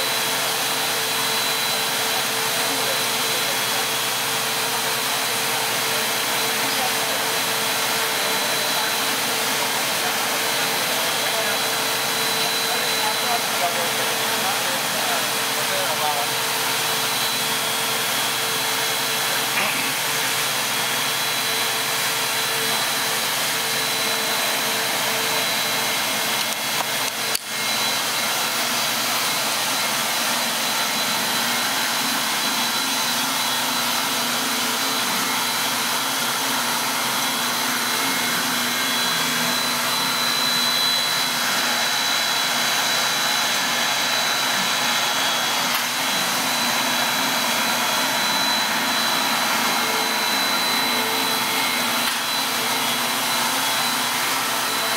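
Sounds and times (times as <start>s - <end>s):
thin high whine: 1.6s - 54.9s.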